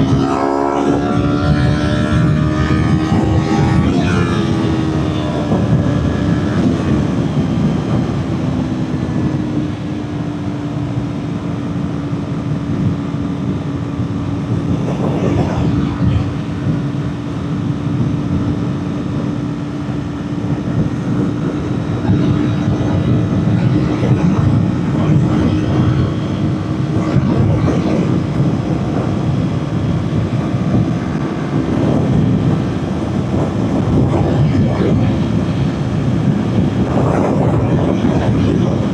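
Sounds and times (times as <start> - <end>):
wind noise: 0.0 - 38.9.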